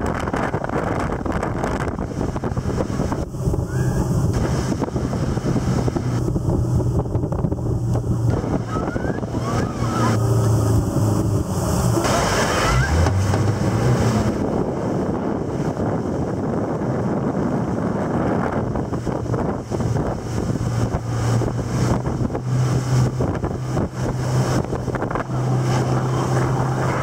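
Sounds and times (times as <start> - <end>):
churning wake rushing: 0.0 - 27.0
outboard motor running: 0.0 - 27.0
wind buffeting microphone: 0.0 - 27.0.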